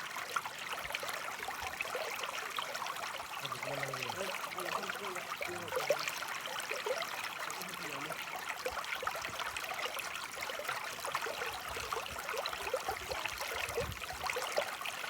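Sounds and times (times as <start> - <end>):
stream trickling over stones: 0.0 - 15.0.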